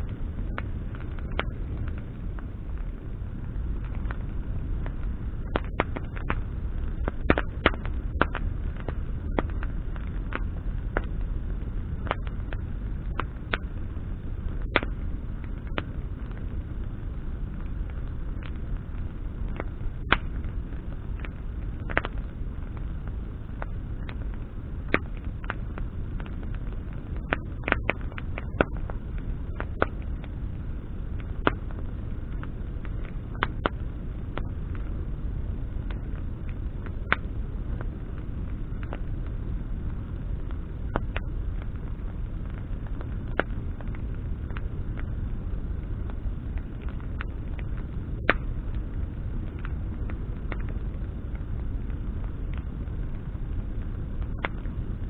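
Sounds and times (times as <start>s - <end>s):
campfire crackling: 0.0s - 55.0s
low rumble: 0.0s - 55.0s.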